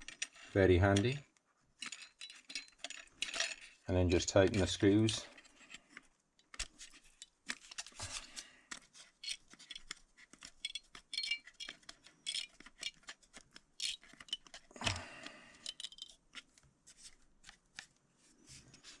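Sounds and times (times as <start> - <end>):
small clicks and scrapes on jigsaw: 0.0 - 3.8, 4.5 - 18.0.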